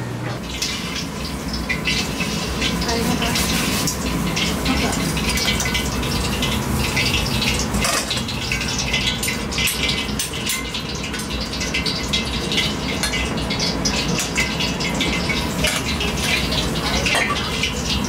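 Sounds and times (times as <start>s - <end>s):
water boiling in a pot: 0.0s - 18.0s
crackling and bubbling: 0.3s - 18.0s.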